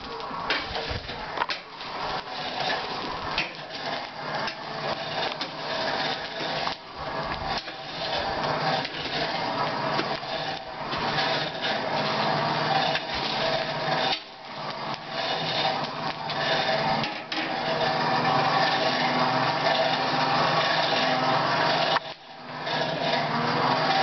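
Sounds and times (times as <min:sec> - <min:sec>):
tool scraping iron: 0:00.1 - 0:24.0.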